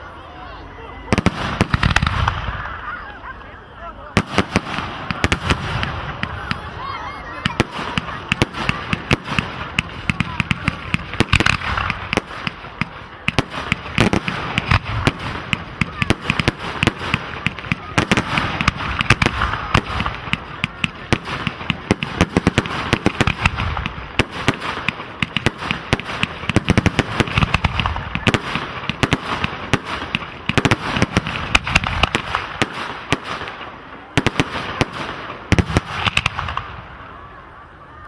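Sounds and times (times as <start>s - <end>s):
fireworks bangs and crackles: 0.3s - 3.4s, 4.0s - 38.0s.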